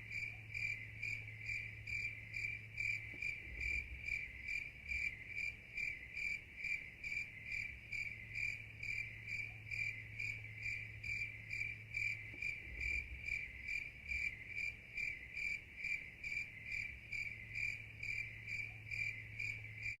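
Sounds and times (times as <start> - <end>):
cricket chirping: 0.0 - 20.0
low steady hum: 0.0 - 20.0.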